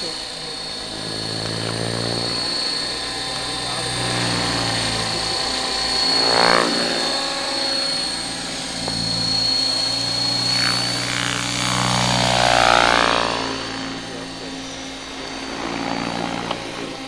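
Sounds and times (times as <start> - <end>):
high motor whine: 0.0 - 17.0
model helicopter rotor chop: 0.0 - 17.0.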